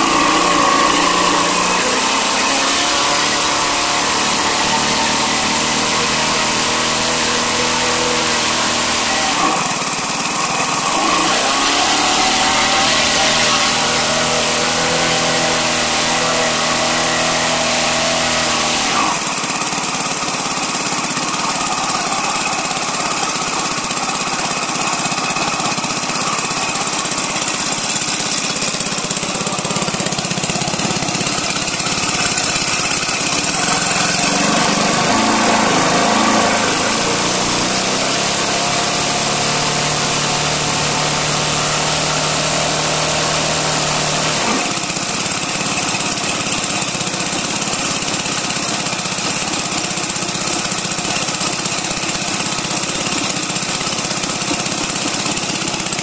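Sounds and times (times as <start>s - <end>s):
model gas engine running: 0.0s - 56.0s.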